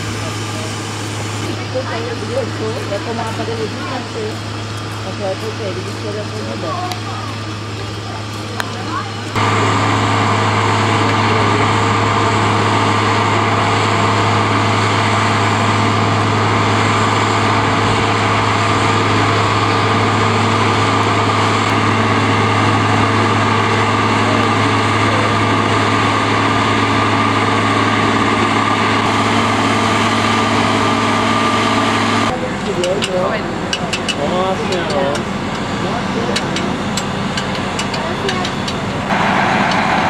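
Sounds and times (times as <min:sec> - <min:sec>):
diesel locomotive engine droning: 0:00.0 - 0:40.0.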